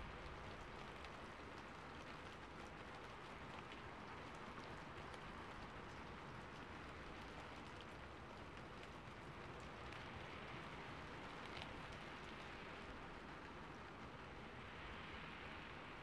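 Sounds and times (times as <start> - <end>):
rain on a rooftop: 0.0 - 16.0.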